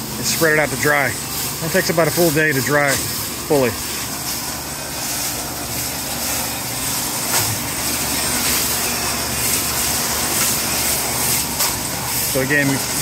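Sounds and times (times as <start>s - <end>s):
hose water spraying: 0.0s - 13.0s
concrete mixer tumbling gravel: 0.2s - 13.0s.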